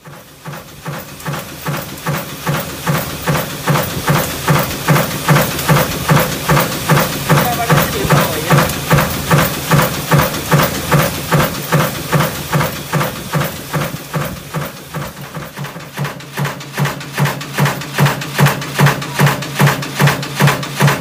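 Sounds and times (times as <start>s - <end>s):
stamping press knocking: 0.5s - 21.0s.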